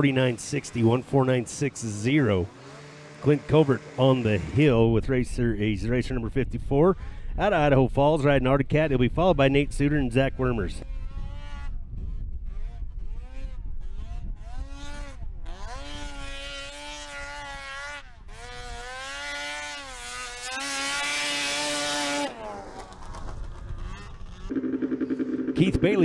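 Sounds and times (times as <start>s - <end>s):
snowmobile engine revving: 0.0s - 6.3s, 8.7s - 26.0s.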